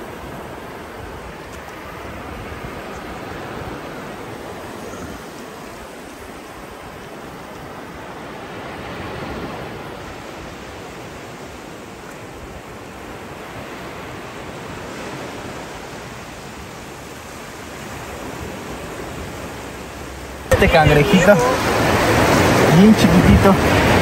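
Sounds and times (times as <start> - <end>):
sea surf breaking on beach: 0.0 - 24.0.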